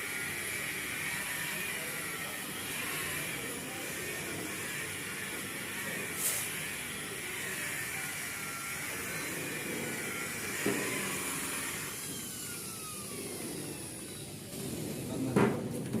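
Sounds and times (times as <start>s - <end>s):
small motor whirring: 0.0s - 16.0s.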